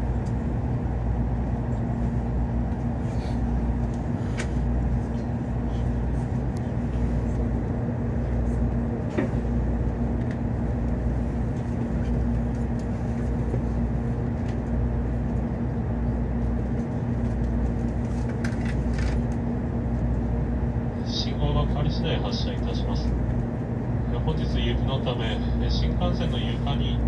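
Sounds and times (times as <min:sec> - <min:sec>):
train interior hum and rumble: 0:00.0 - 0:27.0.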